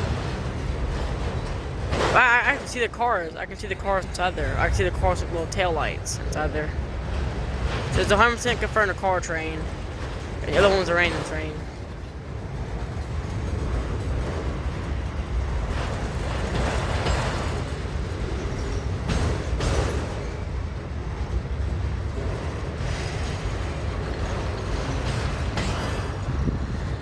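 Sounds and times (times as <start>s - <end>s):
train car clank: 0.0s - 27.0s
train wheels rumbling on rail: 0.0s - 27.0s.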